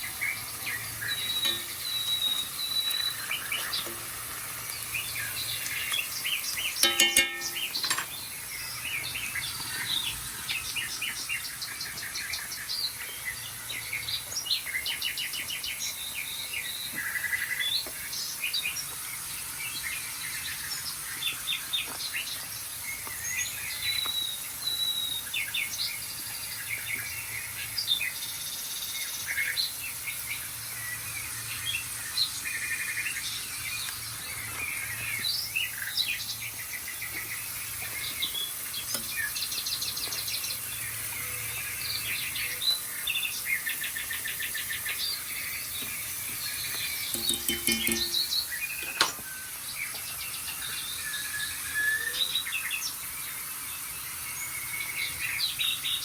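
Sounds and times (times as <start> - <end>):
birdsong chorus from television: 0.0 - 56.0.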